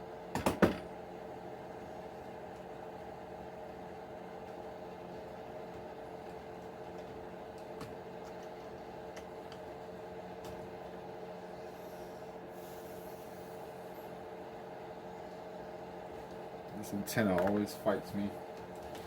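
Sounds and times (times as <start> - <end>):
electrical machine hum: 0.0 - 19.0.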